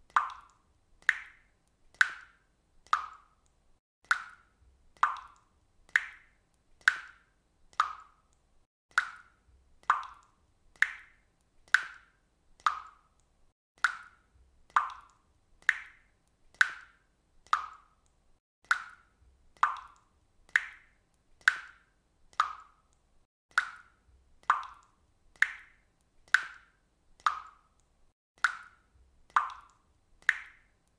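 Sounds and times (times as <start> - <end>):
water dripping from faucet: 0.0 - 30.9.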